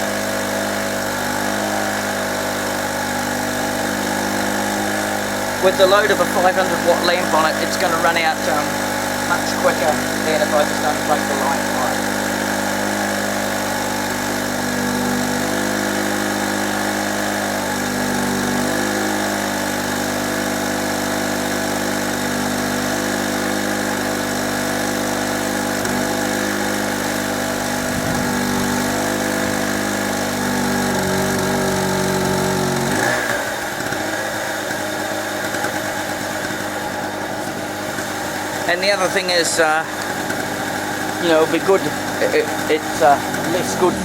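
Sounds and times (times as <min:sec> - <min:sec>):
small generator engine running: 0:00.0 - 0:44.0.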